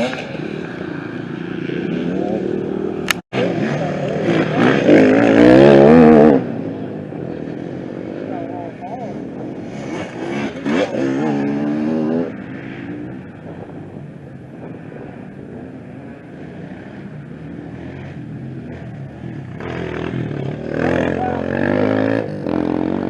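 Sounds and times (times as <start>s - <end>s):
motorcycles passing: 0.0s - 23.0s.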